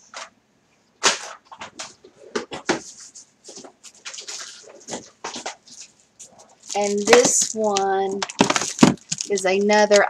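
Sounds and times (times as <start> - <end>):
packaging clicks and rustles: 1.0 - 10.0.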